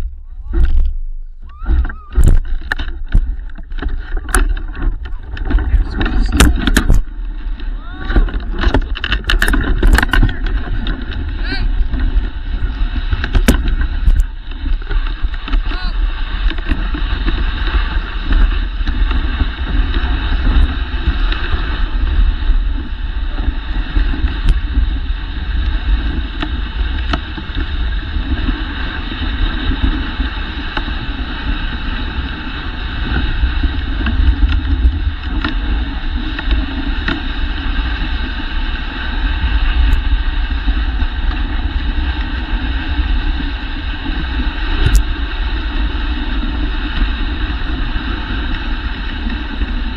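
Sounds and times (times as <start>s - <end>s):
faint sled ticks and knocks: 0.0s - 49.9s
wind rumbling on microphone: 0.0s - 49.9s
sled runners hissing over snow: 3.0s - 49.9s.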